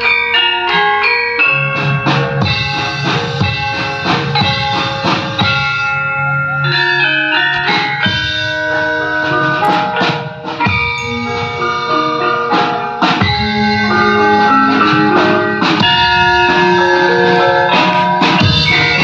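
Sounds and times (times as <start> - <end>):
gamelan metallophones and gongs: 0.0 - 19.0.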